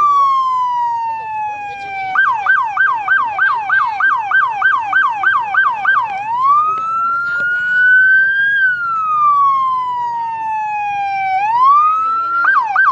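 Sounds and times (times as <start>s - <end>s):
police siren wailing and yelping: 0.0s - 12.9s.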